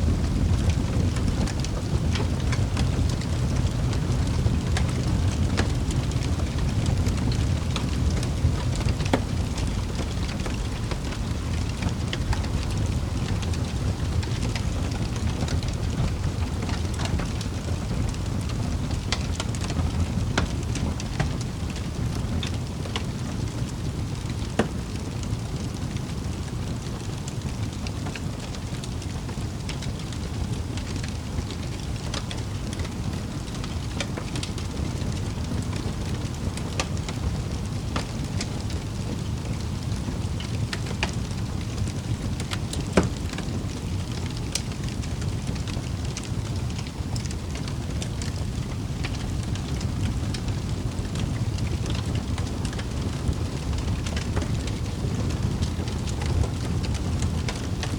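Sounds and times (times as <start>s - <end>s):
fire crackling and popping: 0.0s - 57.9s
rumble of fireplace flames: 0.0s - 57.9s.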